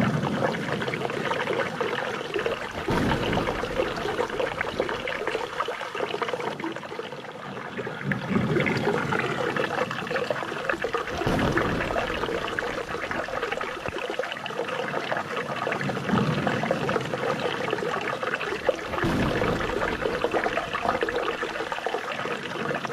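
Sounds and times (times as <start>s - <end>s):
running water trickling: 0.0s - 22.9s.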